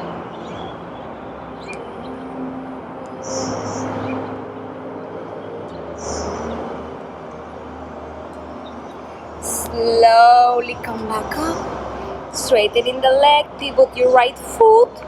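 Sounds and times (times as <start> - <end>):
traffic rumble: 0.0 - 15.0
vehicles passing: 0.0 - 15.0.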